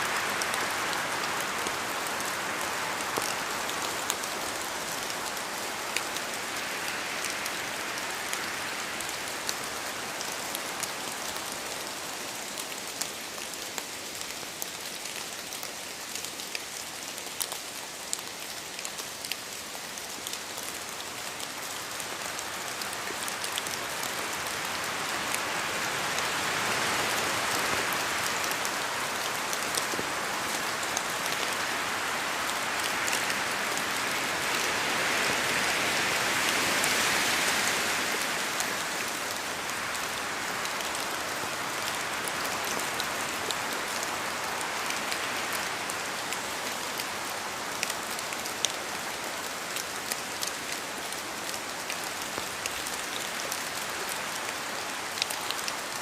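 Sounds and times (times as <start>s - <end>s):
rain in a forest: 0.0s - 56.0s.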